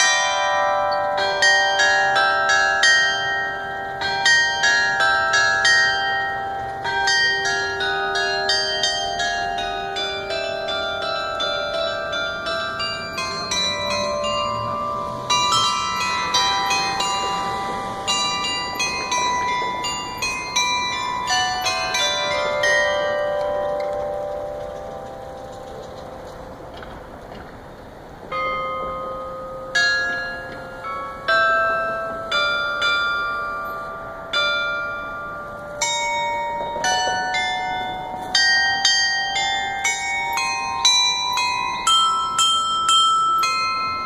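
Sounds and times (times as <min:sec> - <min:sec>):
glockenspiel melody: 0:00.0 - 0:26.7, 0:28.1 - 0:44.0.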